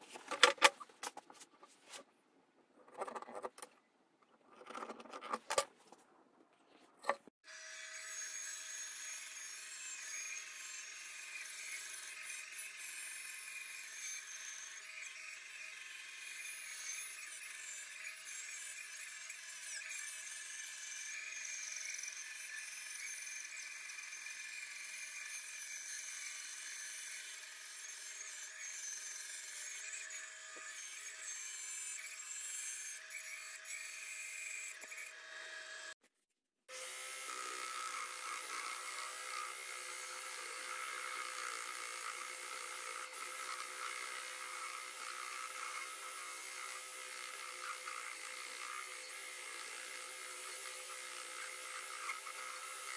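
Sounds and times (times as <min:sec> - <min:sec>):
band saw cutting wood: 0:07.0 - 0:36.0, 0:36.7 - 0:52.9.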